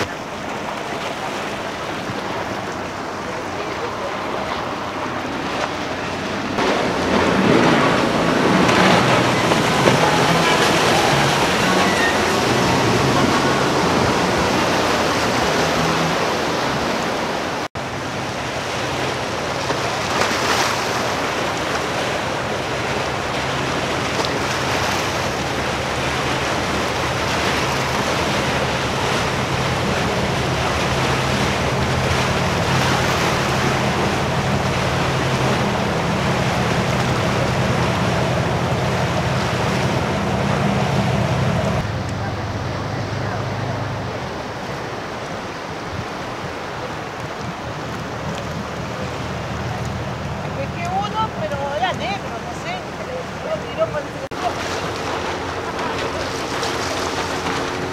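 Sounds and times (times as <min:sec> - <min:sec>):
boat engine drone: 0:00.0 - 0:57.9
boat wake rushing through water: 0:00.0 - 0:57.9.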